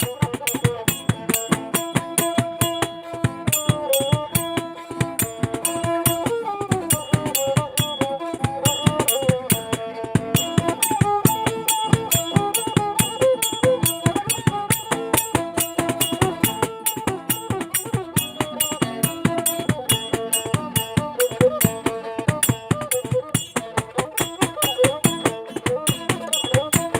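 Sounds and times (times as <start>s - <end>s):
fiddle playing sliding melody: 0.0s - 26.9s
rattling percussion beat: 0.0s - 26.9s.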